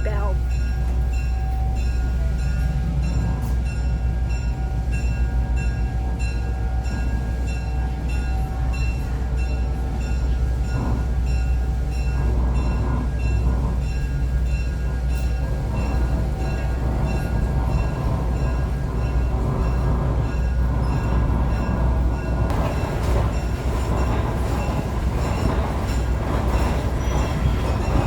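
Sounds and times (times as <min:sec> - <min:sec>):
train running with low rumble: 0:00.0 - 0:28.0.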